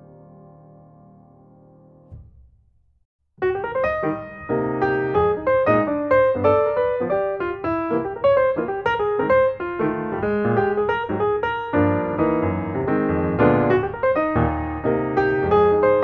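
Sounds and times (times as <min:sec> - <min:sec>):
piano music: 0:00.0 - 0:02.3, 0:03.4 - 0:16.0.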